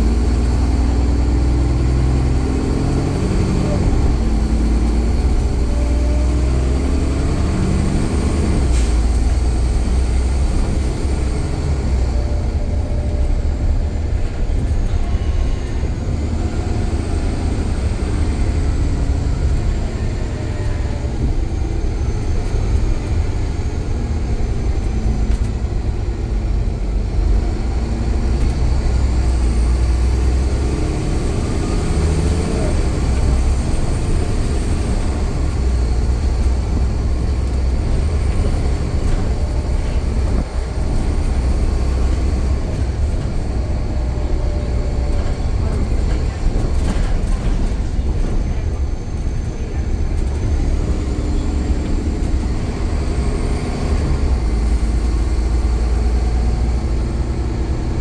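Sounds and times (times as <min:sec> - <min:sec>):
bus engine rumble: 0:00.0 - 0:58.0.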